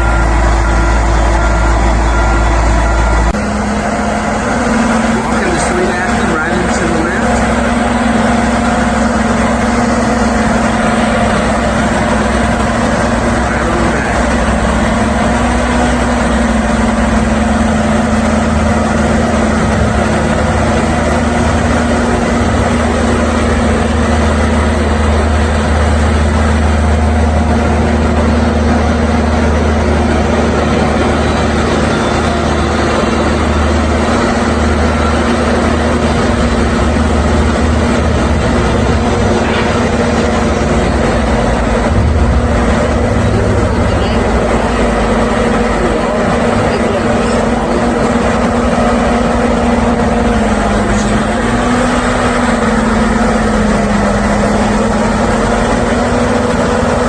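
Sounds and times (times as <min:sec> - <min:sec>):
large engine idling: 0:00.0 - 0:57.0.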